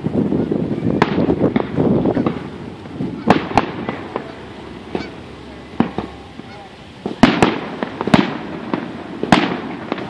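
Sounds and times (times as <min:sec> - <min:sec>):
distant fireworks bangs: 0:00.0 - 0:10.0.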